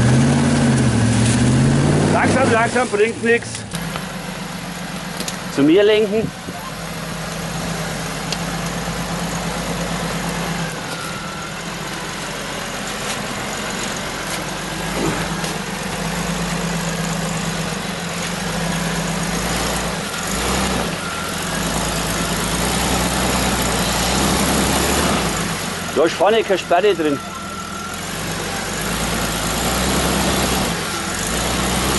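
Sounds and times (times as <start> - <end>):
engine running at low revs: 0.0 - 31.9.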